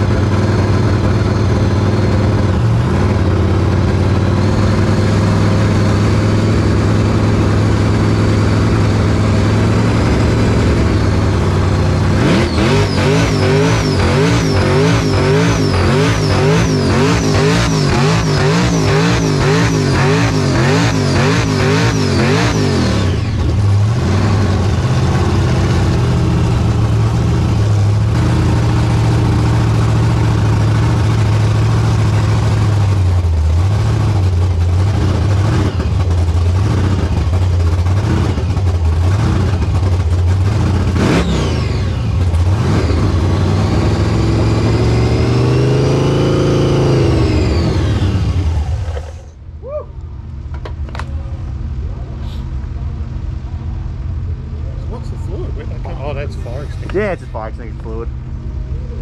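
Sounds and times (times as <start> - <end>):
car engine revving high: 0.0 - 49.4, 54.9 - 59.0.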